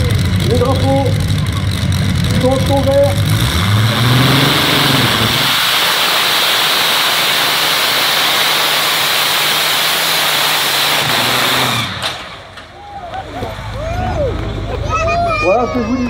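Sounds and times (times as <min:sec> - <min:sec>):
aircraft engine at full power: 0:00.0 - 0:15.1.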